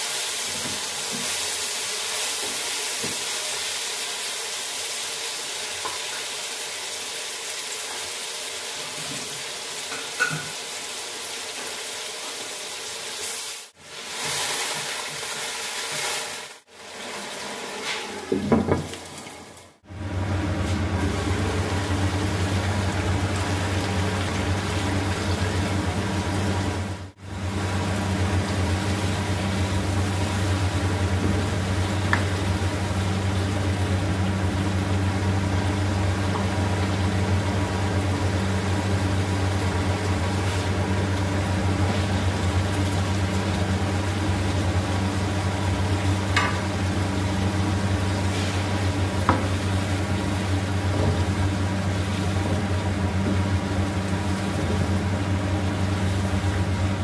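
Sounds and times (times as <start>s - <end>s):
curry simmering and sizzling: 0.0s - 19.8s, 20.8s - 57.0s.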